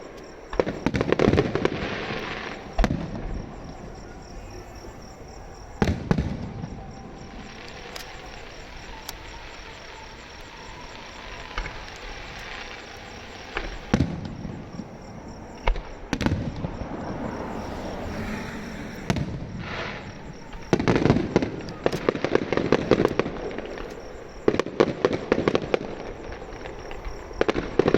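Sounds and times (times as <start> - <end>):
fireworks crackling and hissing: 0.0 - 27.9
fireworks bangs: 0.5 - 27.9.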